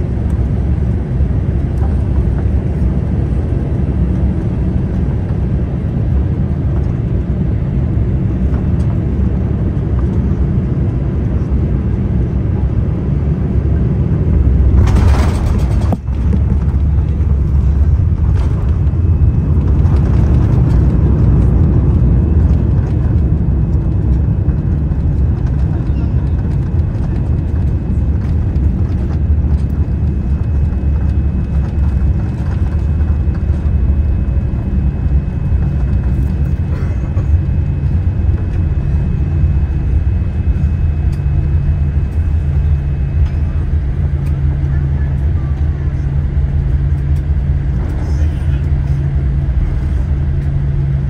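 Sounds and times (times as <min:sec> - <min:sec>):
jet engine rumble inside cabin: 0:00.0 - 0:51.0.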